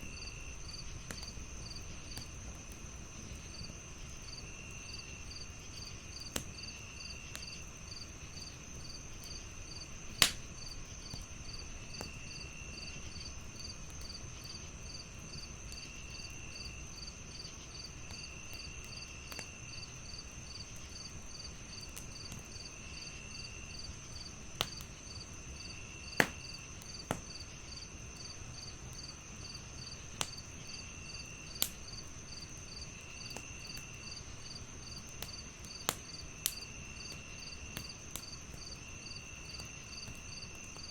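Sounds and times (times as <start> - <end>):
crickets chirping: 0.0 - 40.9
wood fire crackling and popping: 0.0 - 40.9.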